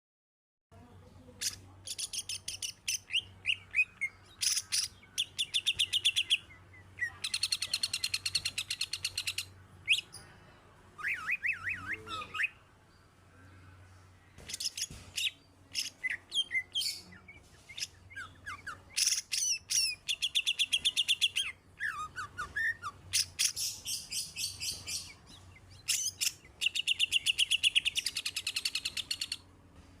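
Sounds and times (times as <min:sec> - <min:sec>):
bird singing trills and whistles: 0:01.4 - 0:10.2, 0:11.0 - 0:12.6, 0:14.5 - 0:29.4.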